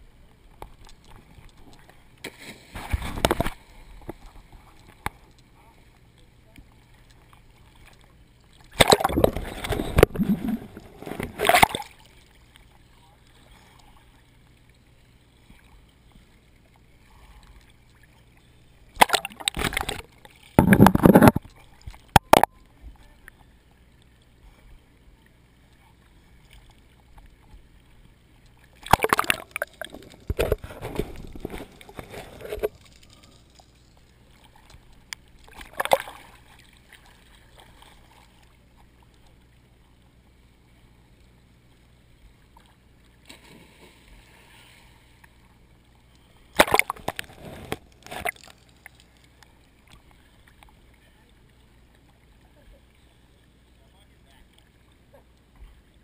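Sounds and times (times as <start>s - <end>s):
sea water splashing: 0.0s - 23.6s, 24.2s - 39.8s, 42.2s - 53.1s.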